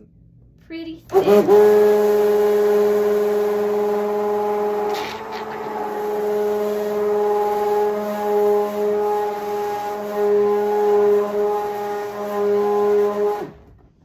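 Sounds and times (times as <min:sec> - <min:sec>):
immersion blender whining: 0:01.1 - 0:13.8.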